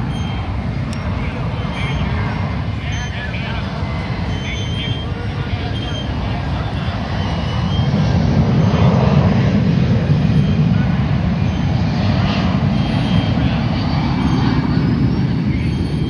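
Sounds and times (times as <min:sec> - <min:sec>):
jet flying low overhead: 0:00.0 - 0:16.0.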